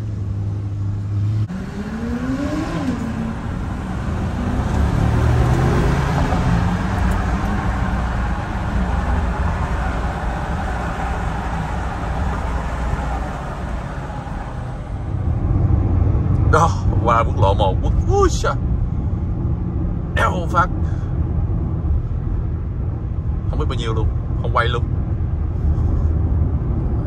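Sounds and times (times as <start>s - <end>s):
car engine accelerating: 0.0s - 27.0s
road rumble: 0.0s - 27.0s.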